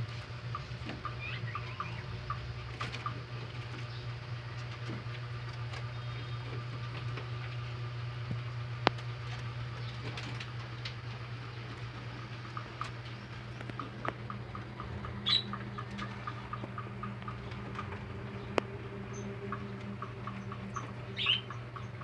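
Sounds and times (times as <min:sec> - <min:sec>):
rabbits chewing vegetables: 0:00.0 - 0:22.0
steady low hum: 0:00.0 - 0:22.0.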